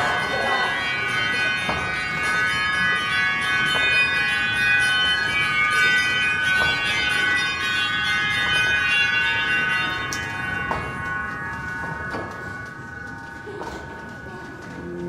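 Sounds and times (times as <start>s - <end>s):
shimmering high chord: 0.0s - 13.6s.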